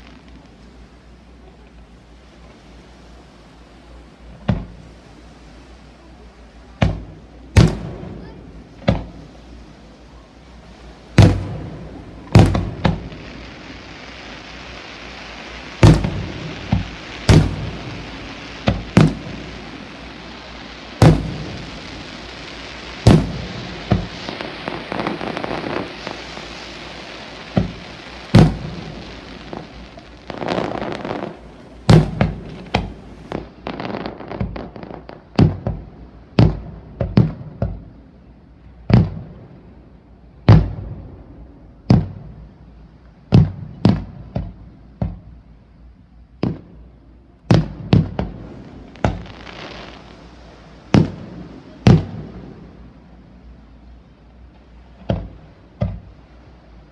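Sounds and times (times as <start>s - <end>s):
fireworks hissing: 0.0s - 56.9s
fireworks bursting with loud bangs: 4.2s - 5.4s, 6.1s - 38.1s, 38.8s - 42.6s, 43.2s - 45.4s, 46.3s - 56.9s.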